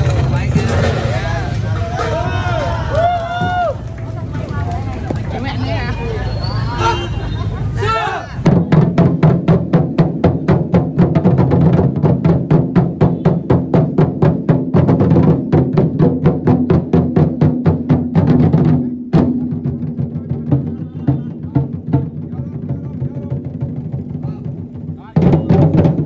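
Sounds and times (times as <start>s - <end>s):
drums beaten in fast rhythm: 0.0s - 4.2s, 8.4s - 26.0s.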